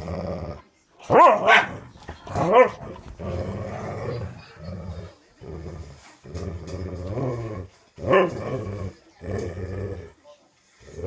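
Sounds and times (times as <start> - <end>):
dogs growling: 0.0 - 0.7, 1.6 - 10.2, 10.8 - 11.0.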